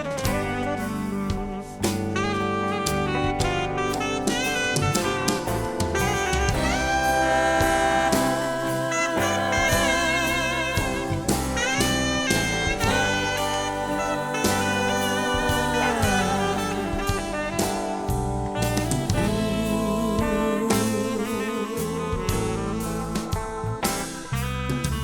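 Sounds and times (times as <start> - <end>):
bass: 0.0 - 25.0
drum kit: 0.0 - 25.0
keyboards: 0.0 - 25.0
saxophone solo: 0.0 - 25.0.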